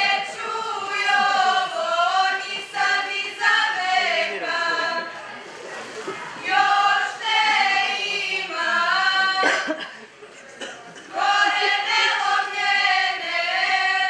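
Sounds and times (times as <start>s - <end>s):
women's choir singing a cappella: 0.0s - 5.4s, 6.1s - 9.8s, 11.0s - 14.0s.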